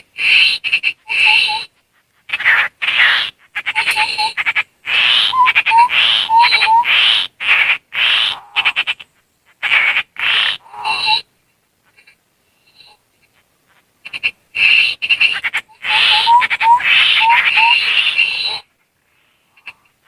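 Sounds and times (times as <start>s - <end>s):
babbler scolding calls: 0.0s - 18.8s.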